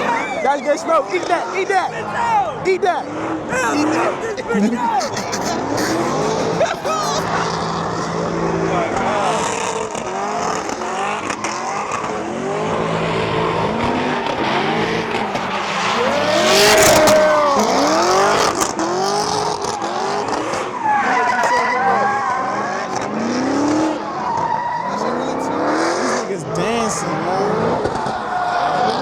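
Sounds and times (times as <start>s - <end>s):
car engines revving: 0.0s - 29.0s
tires squealing: 0.0s - 29.0s.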